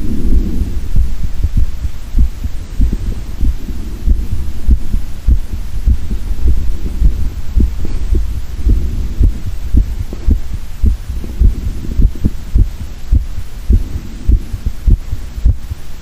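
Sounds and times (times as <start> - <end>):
heart beating through stethoscope: 0.0 - 15.9
steady low hum: 0.0 - 16.0.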